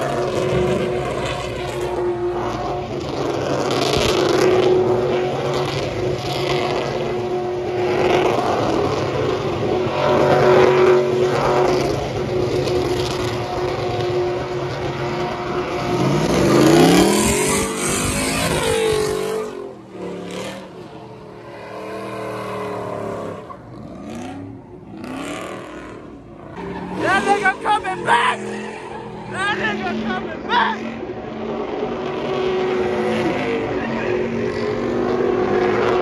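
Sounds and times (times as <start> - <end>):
truck engine revving: 0.0 - 36.0.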